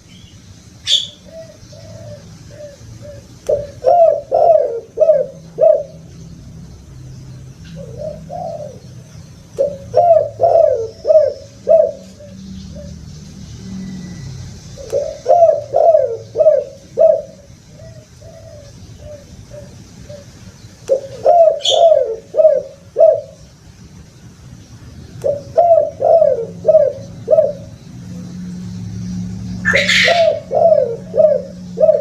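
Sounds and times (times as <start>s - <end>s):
dove cooing: 0.8s - 6.2s, 7.7s - 23.5s, 25.2s - 28.4s, 29.6s - 32.0s.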